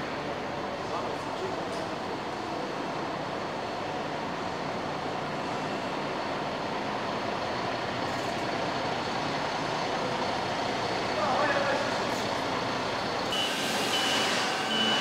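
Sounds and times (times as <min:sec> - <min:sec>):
coach diesel engine running: 0:00.1 - 0:13.3.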